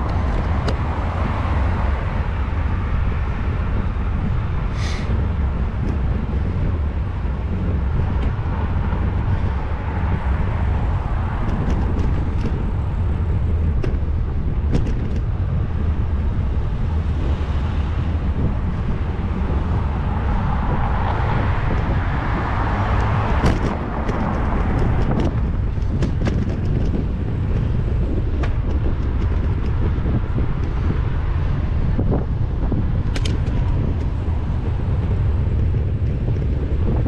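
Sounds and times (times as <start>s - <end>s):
street traffic passing: 0.0s - 37.0s
wind rumbling on microphone: 0.0s - 37.0s.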